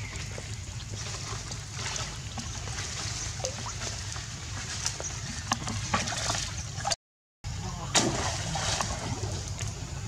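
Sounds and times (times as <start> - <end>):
water sloshing and splashing: 0.1 - 7.0, 7.8 - 10.0.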